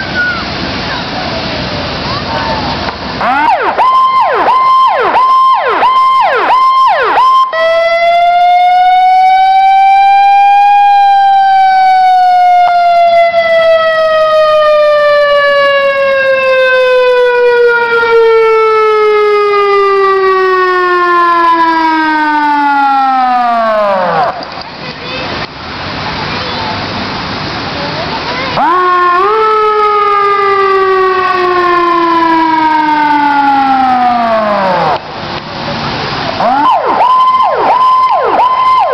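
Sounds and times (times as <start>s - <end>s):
emergency vehicle siren: 2.6s - 24.6s, 28.4s - 35.2s, 36.3s - 38.9s.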